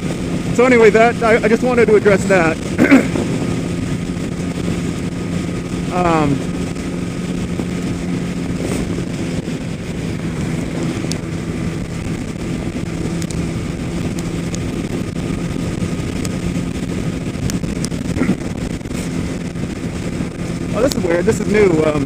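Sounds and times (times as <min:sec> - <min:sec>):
motorcycle engine cruising: 0:00.0 - 0:22.0
wind rushing over microphone: 0:00.0 - 0:22.0.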